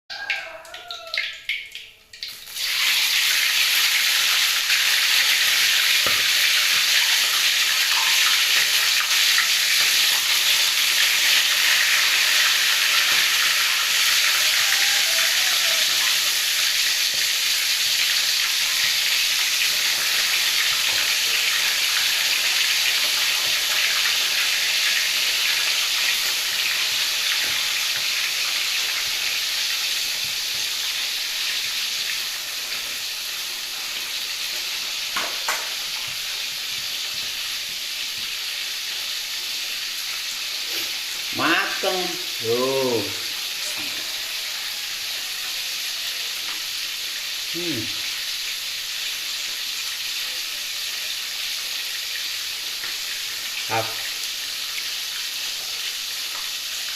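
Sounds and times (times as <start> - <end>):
fish sizzling in hot oil: 2.2 - 56.9.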